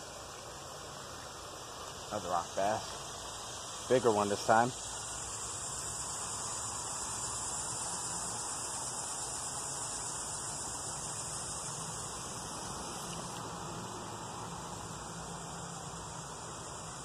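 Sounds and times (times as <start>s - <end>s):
creek water running over rocks: 0.0s - 17.0s.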